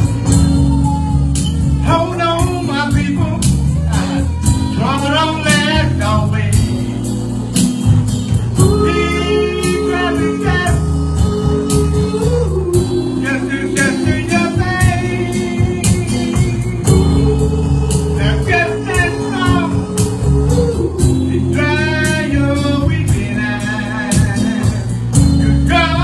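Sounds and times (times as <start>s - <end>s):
bass guitar: 0.0s - 26.0s
guitar: 0.0s - 26.0s
steady drum beat: 0.0s - 26.0s.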